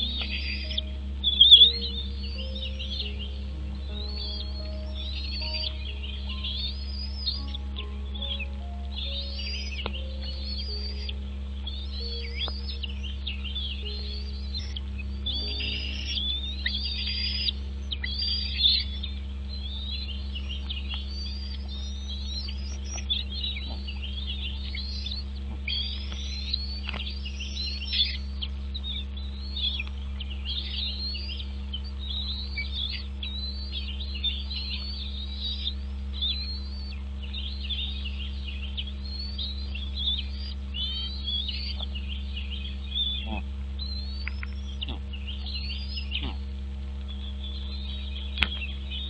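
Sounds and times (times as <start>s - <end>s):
birds chirping: 0.0s - 49.0s
steady low hum: 0.0s - 49.0s.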